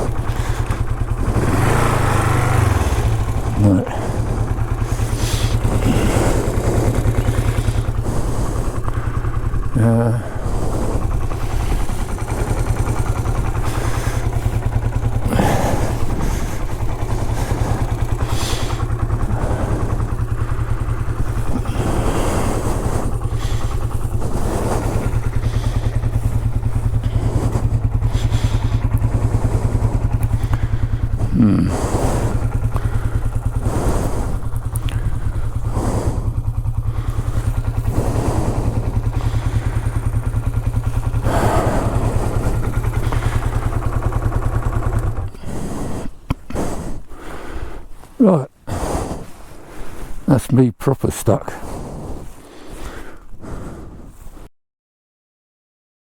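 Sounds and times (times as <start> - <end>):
motorcycle engine idling: 0.0 - 50.2.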